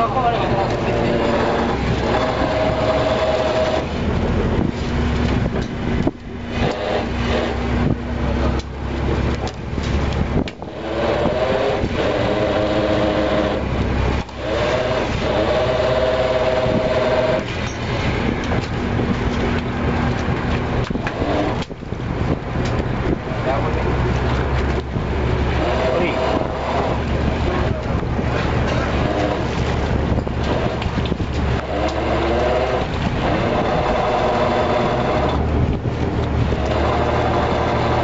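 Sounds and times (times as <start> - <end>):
pitched machine whine: 0.0 - 22.4, 23.0 - 38.0
boat engine running: 0.0 - 38.0
low steady hum: 0.0 - 38.0.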